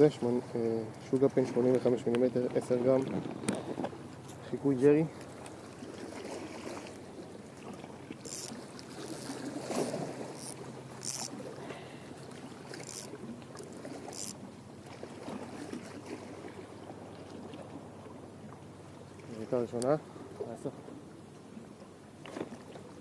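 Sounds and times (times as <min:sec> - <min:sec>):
waves lapping at shore: 0:00.0 - 0:23.0.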